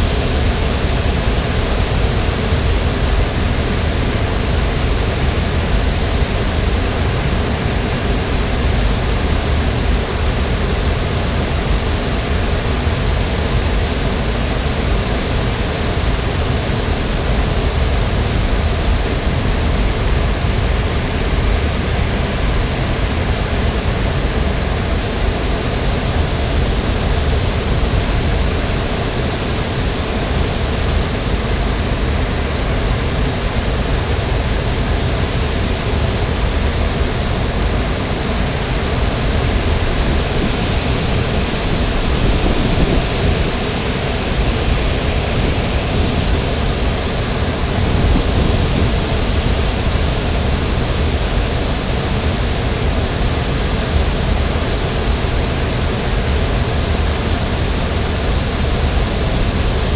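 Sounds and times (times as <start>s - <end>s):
water rushing over dam spillway: 0.0s - 59.9s.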